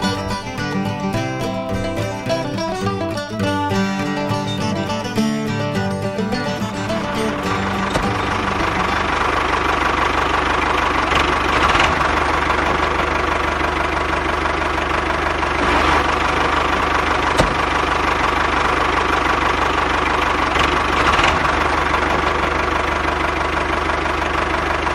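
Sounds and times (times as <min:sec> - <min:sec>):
engine idling: 0:00.0 - 0:24.9.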